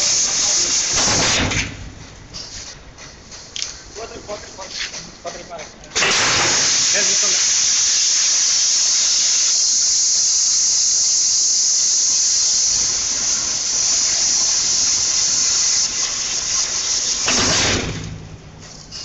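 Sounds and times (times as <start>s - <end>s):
machine high-pitched hiss: 0.0s - 19.0s.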